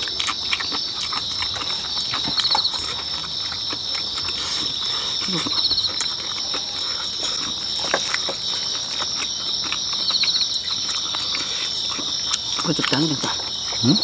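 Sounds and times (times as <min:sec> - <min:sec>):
insect pulsed chirp: 0:00.0 - 0:14.0
insects trilling: 0:00.0 - 0:14.0
person chewing food: 0:00.0 - 0:14.0.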